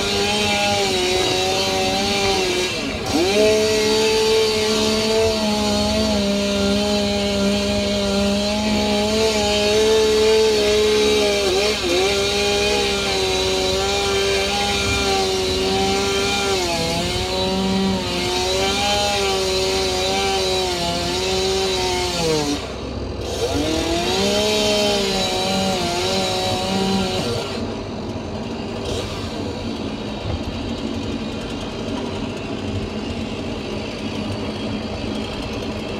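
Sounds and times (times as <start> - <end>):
chainsaw cutting through log: 0.0 - 35.9.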